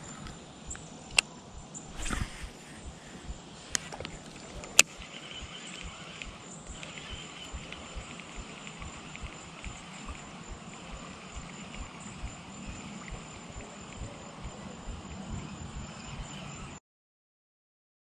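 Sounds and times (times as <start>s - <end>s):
sharp clicks: 0.0s - 16.6s
fishing reel whirring and ticking: 0.0s - 16.7s
insect buzz: 0.0s - 16.8s.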